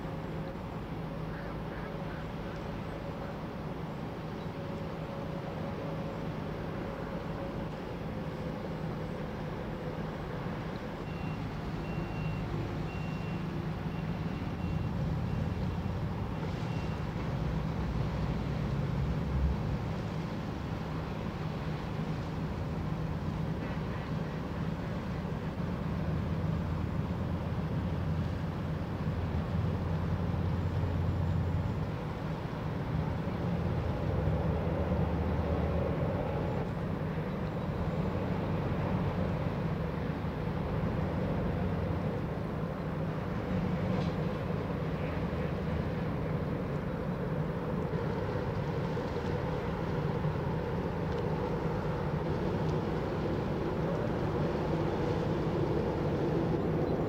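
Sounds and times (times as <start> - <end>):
ship engine deep rumble: 0.0 - 57.0.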